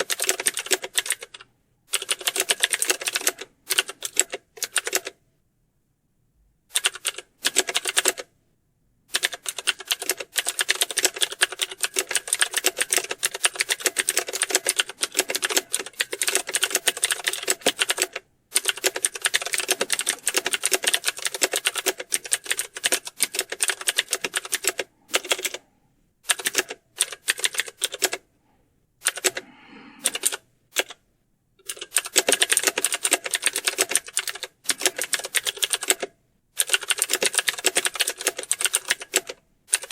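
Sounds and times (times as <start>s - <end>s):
fast typing on keyboards: 0.0s - 5.2s, 6.7s - 8.3s, 9.1s - 25.6s, 26.3s - 28.2s, 29.0s - 29.4s, 30.0s - 31.0s, 31.6s - 39.9s.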